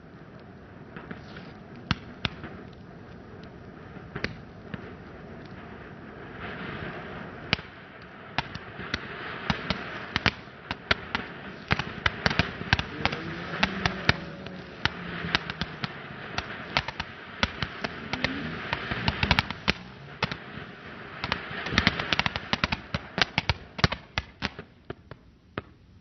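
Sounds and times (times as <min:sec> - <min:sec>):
fireworks fizzing hiss: 0:00.0 - 0:26.0
fireworks pops and cracks: 0:00.0 - 0:26.0.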